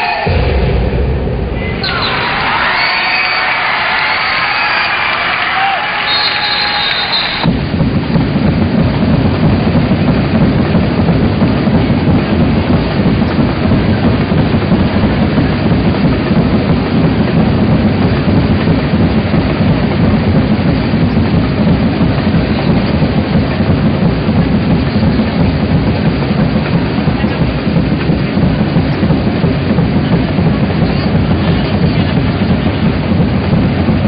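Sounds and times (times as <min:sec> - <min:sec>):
loud low rumbling: 0:00.0 - 0:34.0.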